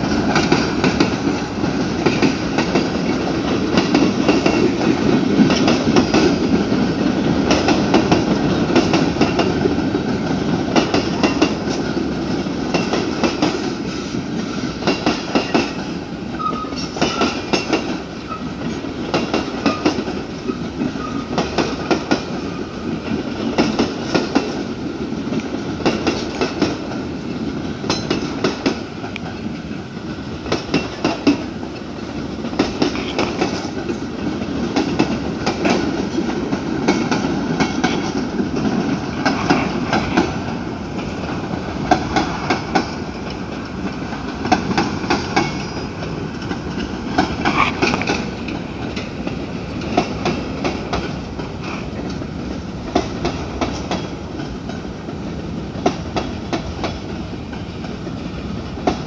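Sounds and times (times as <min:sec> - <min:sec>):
train cars rumbling past: 0:00.0 - 0:59.0
wheels clacking over rail joints: 0:00.0 - 0:59.0.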